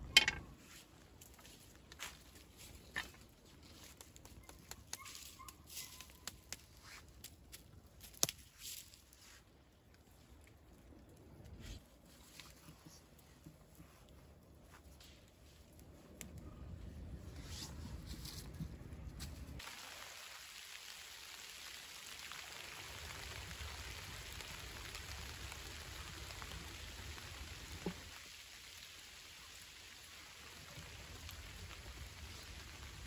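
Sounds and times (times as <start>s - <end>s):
rain falling in woodland: 0.0s - 17.0s, 18.2s - 33.0s.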